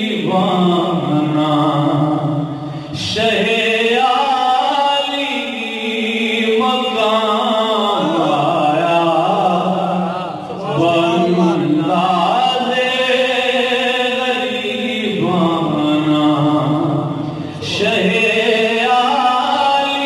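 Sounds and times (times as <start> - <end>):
man singing into microphone: 0.0 - 20.0.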